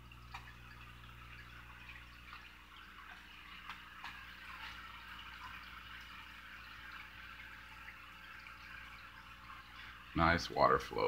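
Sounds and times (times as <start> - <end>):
aquarium water splashing: 0.0 - 11.0.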